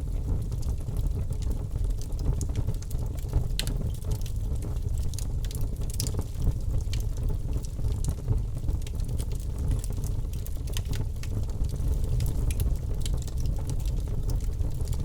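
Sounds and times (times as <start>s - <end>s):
burning wood crackling and popping: 0.0s - 15.0s
campfire low rumble: 0.0s - 15.0s.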